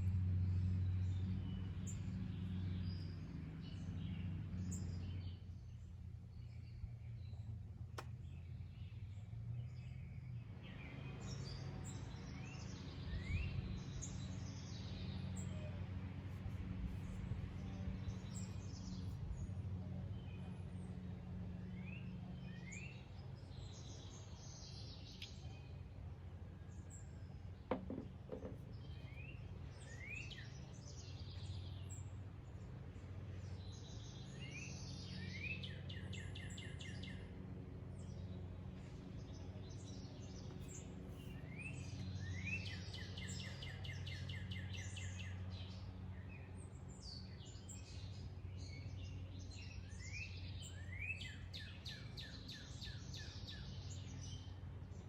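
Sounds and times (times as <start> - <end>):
birds singing with trills: 0.0 - 16.2, 17.0 - 55.0.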